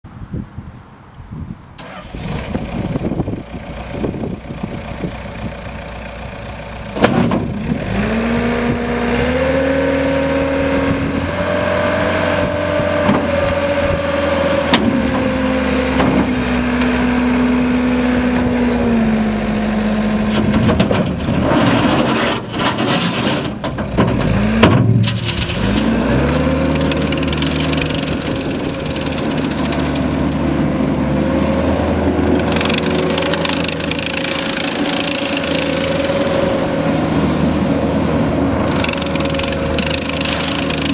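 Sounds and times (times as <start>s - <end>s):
diesel engine running: 1.8s - 40.9s.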